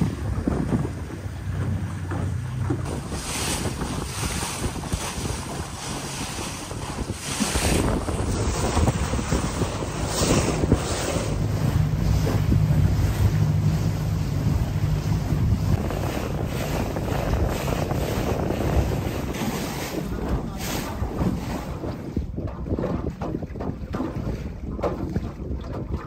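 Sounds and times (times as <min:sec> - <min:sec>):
boat motor drone: 0:00.0 - 0:22.6
water splashing along hull: 0:00.0 - 0:26.0
wind buffeting the microphone: 0:00.0 - 0:26.0.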